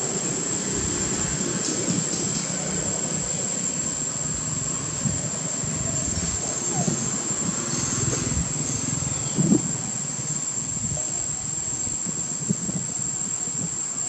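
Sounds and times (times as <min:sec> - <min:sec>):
high thin insect drone: 0:00.0 - 0:14.0
low engine-like rumble: 0:00.0 - 0:14.0.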